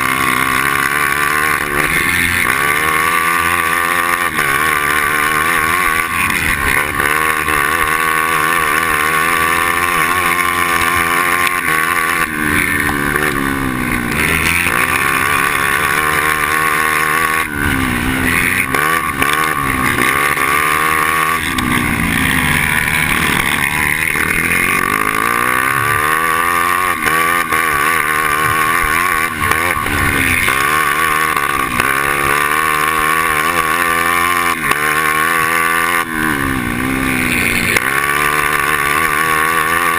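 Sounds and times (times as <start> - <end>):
two-stroke kart engine revving: 0.0 - 39.9.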